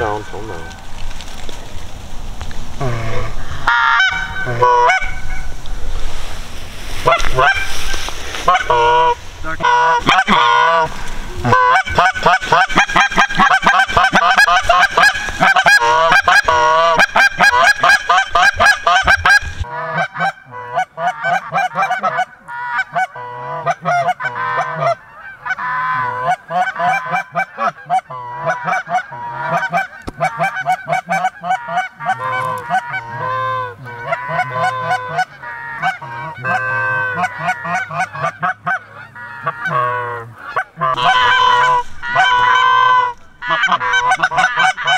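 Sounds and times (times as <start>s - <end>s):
goose call honks and clucks: 2.8s - 5.4s, 7.0s - 7.7s, 8.4s - 44.9s
flock of geese honking: 2.8s - 5.5s, 7.0s - 44.9s.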